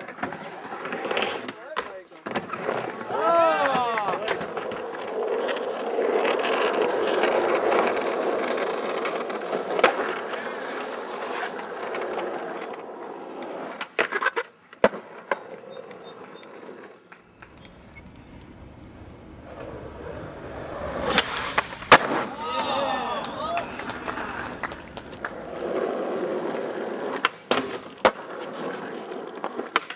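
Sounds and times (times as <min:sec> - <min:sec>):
skateboard clacks: 0:00.0 - 0:29.9
skateboard wheels rolling on asphalt: 0:00.0 - 0:29.9.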